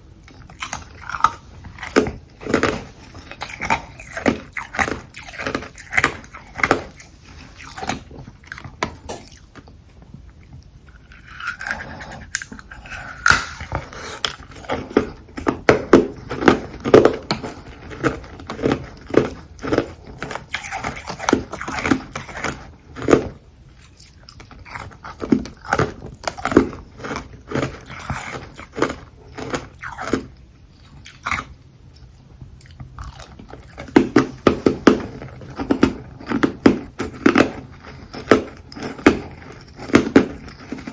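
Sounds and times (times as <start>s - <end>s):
chewing crunchy ice: 0.1s - 40.9s.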